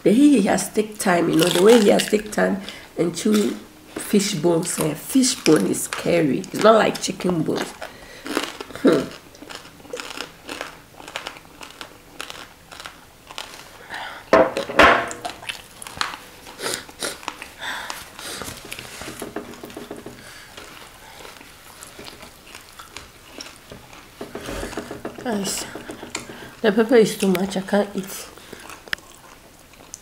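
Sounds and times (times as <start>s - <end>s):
crunchy chewing: 3.3s - 14.0s, 15.2s - 30.0s.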